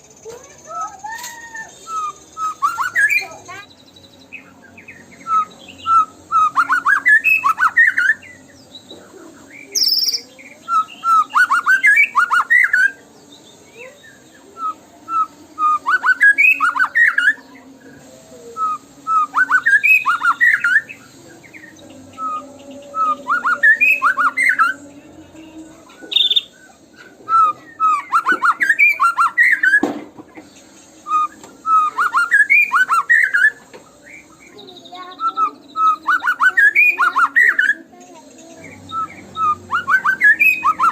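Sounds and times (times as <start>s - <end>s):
bird singing whistled notes: 0.1s - 29.9s, 30.7s - 40.9s.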